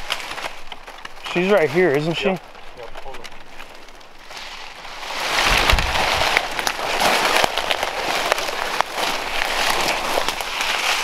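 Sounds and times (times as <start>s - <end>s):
dry brush rustling and crackling: 0.0s - 11.0s.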